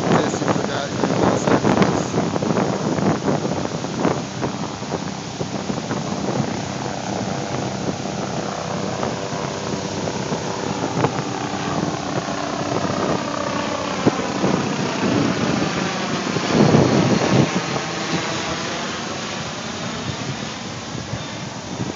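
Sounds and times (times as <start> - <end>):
ocean surf rushing: 0.0 - 21.9.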